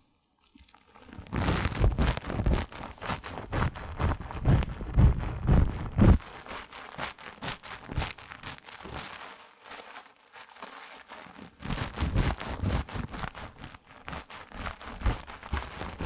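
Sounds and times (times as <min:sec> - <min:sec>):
crinkling and rustling: 0:00.4 - 0:16.0.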